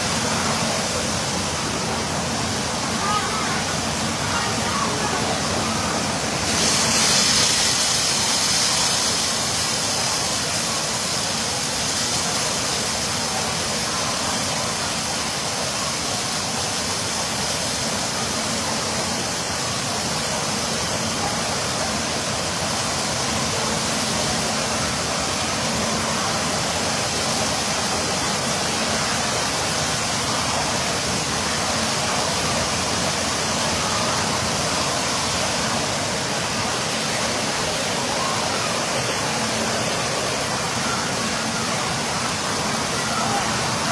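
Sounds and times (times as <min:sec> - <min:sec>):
water pouring into pool: 0:00.0 - 0:43.9.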